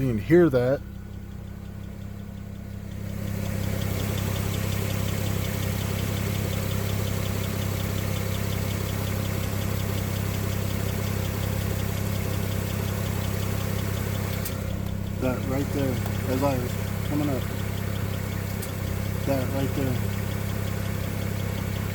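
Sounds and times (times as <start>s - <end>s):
car engine running: 0.0s - 21.9s
fast even ticking: 0.0s - 21.9s.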